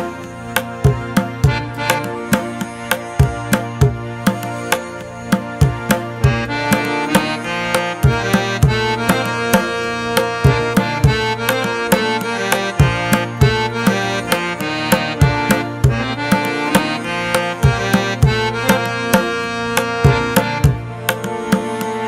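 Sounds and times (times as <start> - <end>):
instrumental music with percussion beat: 0.0 - 22.0.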